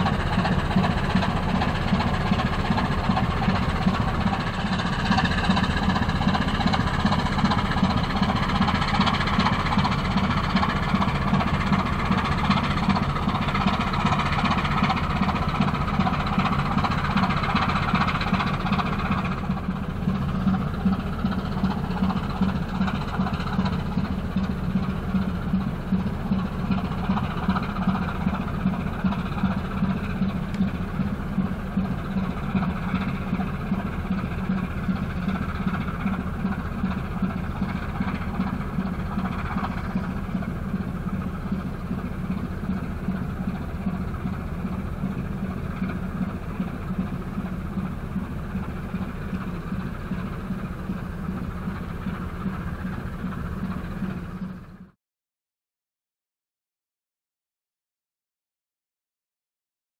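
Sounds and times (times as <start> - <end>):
ship diesel engine pulsing: 0.0 - 55.0.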